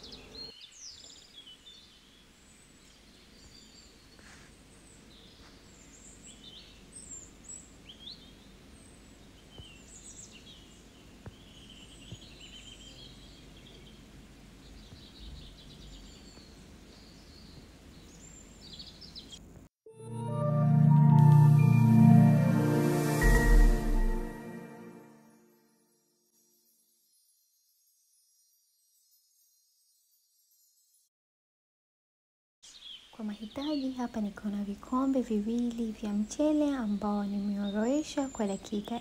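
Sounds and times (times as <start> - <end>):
faint ambient hiss: 0.0 - 25.3, 32.6 - 39.0.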